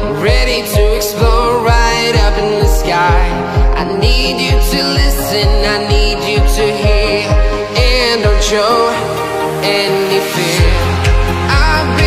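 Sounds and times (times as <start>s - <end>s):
pop music with kick drum: 0.0s - 12.0s
sung or synth melody: 0.0s - 12.0s.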